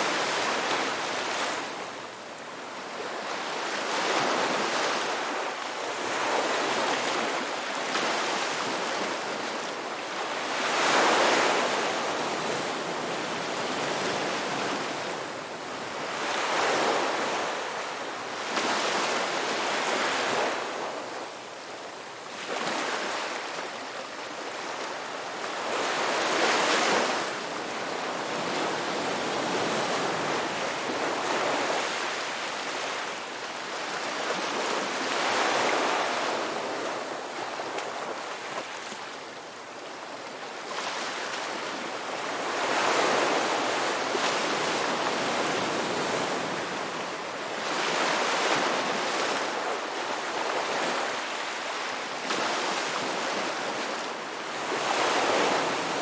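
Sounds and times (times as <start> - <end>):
sea waves breaking on shore: 0.0 - 21.4, 22.3 - 56.0.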